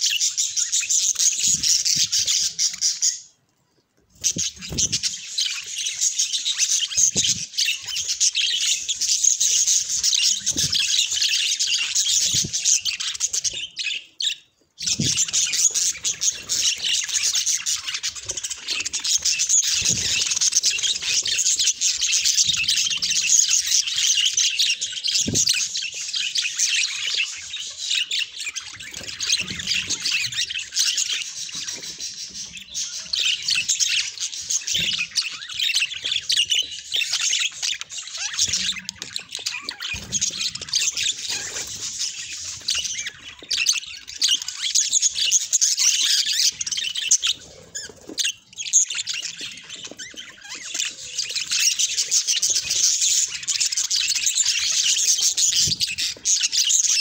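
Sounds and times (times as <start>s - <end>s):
budgerigars chattering: 4.2s - 57.0s.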